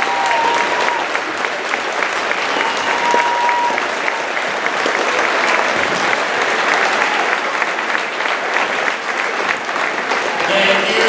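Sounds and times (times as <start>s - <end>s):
large crowd applauding: 0.0s - 11.0s.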